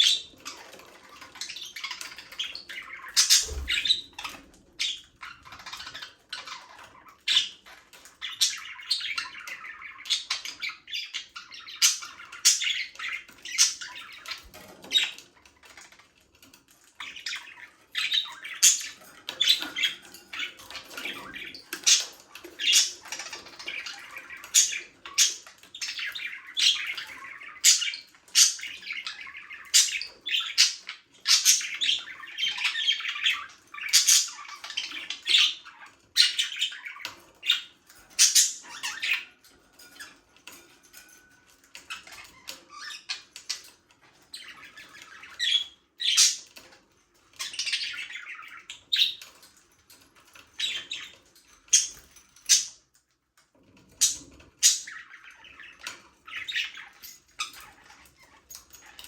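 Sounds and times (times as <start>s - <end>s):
budgerigars chirping and squawking: 0.0s - 53.0s, 53.6s - 59.0s.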